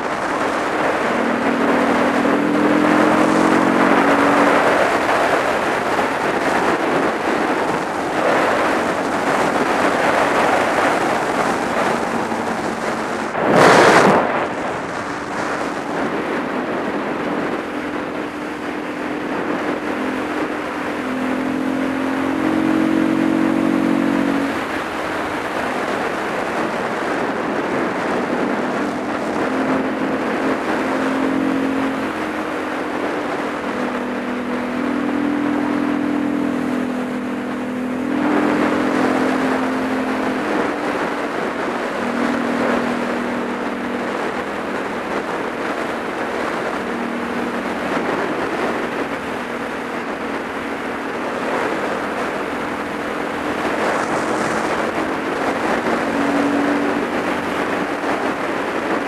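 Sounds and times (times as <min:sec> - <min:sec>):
motorcycle engine revving: 0:00.0 - 0:59.0
wind noise on microphone: 0:00.0 - 0:59.0.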